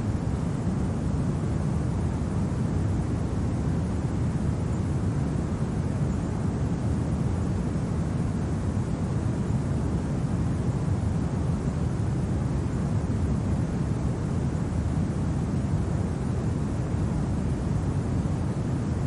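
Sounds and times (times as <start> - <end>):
wind rumble with faint hiss: 0.0 - 19.0.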